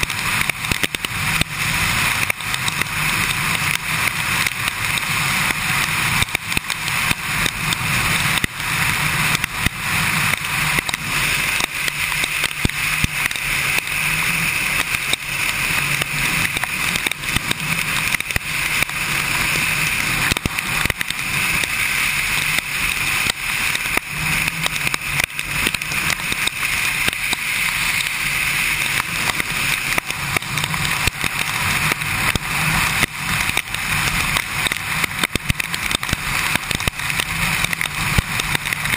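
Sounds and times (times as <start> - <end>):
motorcycle engine: 0.0 - 38.9
raindrops hitting microphone: 0.0 - 38.9
tyre spray on wet road: 0.0 - 38.9.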